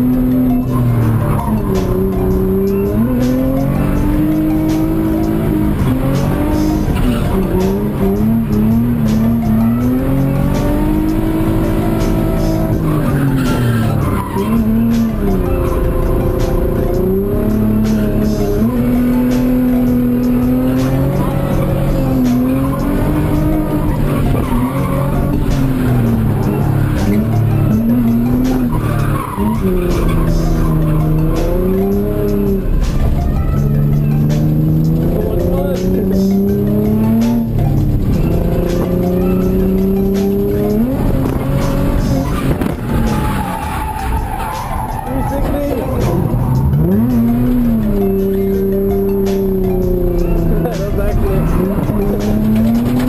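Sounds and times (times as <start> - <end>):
car engine revving high: 0.0 - 53.0
tires squealing: 0.0 - 53.0.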